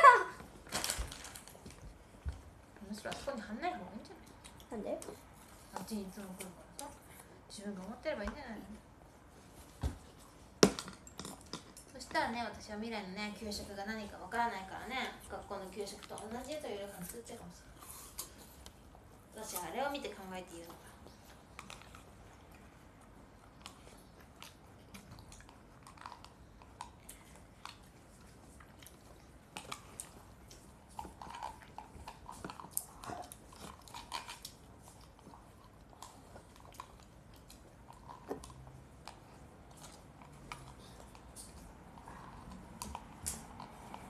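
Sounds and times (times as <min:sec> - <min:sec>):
children chewing food: 0:00.0 - 0:44.0.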